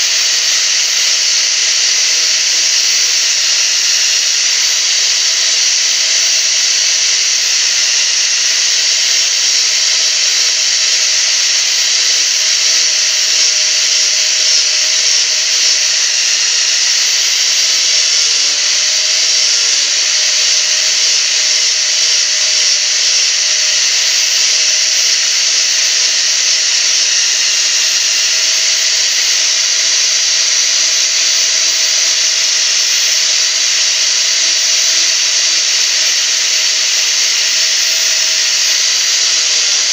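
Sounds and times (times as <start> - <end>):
angle grinder grinding wood: 0.0 - 39.9.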